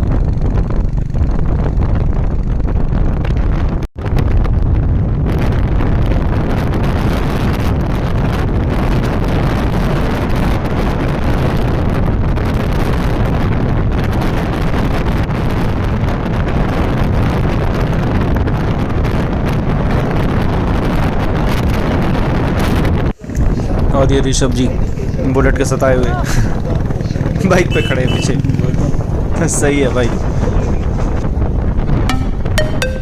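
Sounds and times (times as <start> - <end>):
wind buffeting microphone: 0.0 - 32.1.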